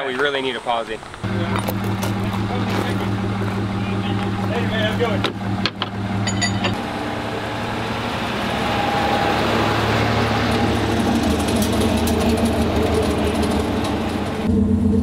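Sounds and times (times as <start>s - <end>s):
tyre noise on road: 0.0s - 15.0s
truck engine driving past: 1.2s - 15.0s.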